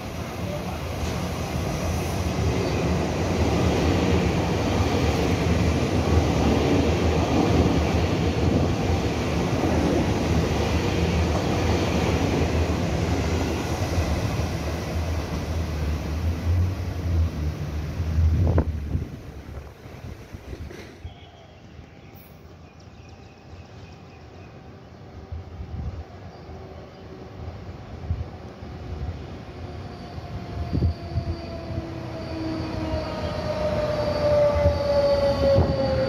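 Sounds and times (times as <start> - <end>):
train wheels rushing on rail: 0.0 - 24.5, 25.2 - 36.0.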